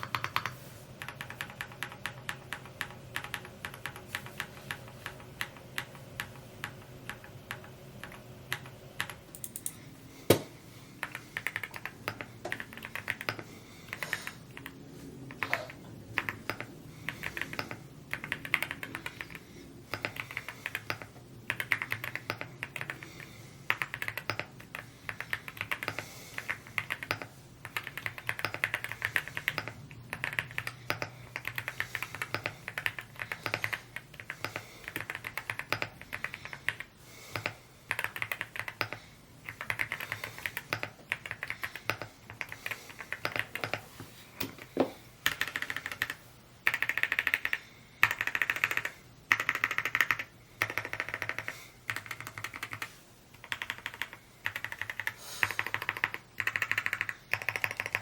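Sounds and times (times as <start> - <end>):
fast mechanical keyboard typing: 0.0 - 9.7, 11.0 - 43.8, 45.2 - 58.0.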